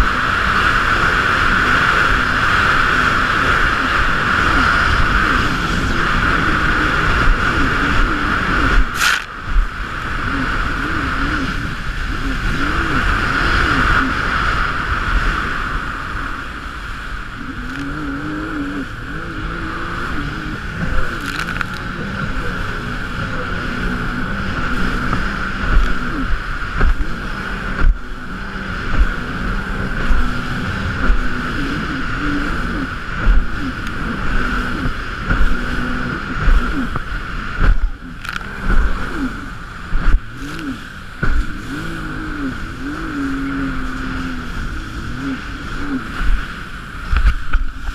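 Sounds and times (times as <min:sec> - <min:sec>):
high whine: 0:00.0 - 0:47.9
hull slapping waves: 0:00.0 - 0:47.9
jet ski engine revving: 0:00.0 - 0:47.9.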